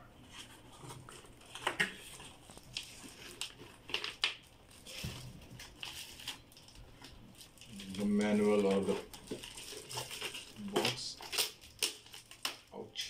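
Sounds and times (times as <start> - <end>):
cardboard and paper rustling: 0.2 - 12.6.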